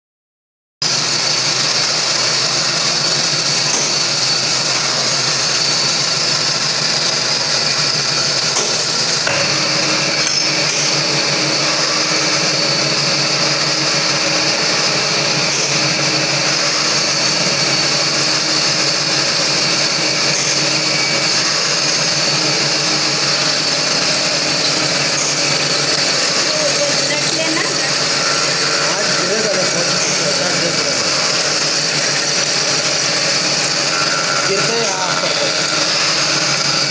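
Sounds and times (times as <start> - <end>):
lathe machine running: 0.8 - 36.9
constant high whine: 0.9 - 36.9.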